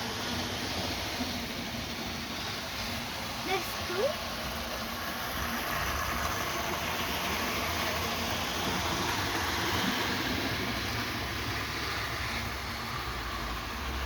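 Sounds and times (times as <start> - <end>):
model train motor whirring: 0.0 - 14.0
wheels on rails: 0.0 - 14.0.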